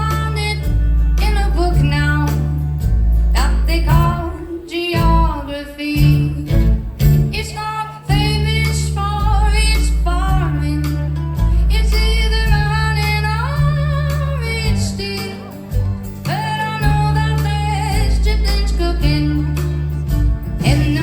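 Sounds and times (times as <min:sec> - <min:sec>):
deep bass notes: 0:00.0 - 0:05.4, 0:06.0 - 0:21.0
acoustic guitar: 0:00.0 - 0:21.0
woman singing: 0:00.0 - 0:21.0.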